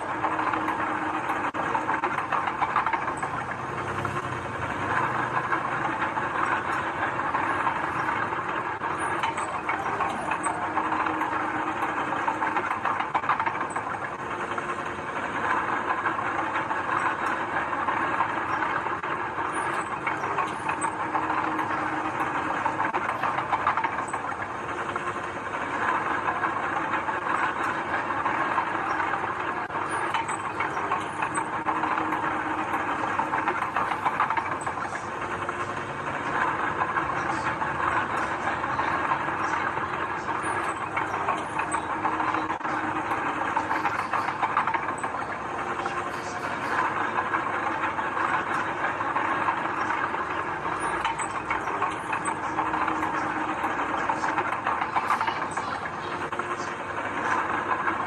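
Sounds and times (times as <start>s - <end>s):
diesel machinery engine: 0.0s - 58.0s.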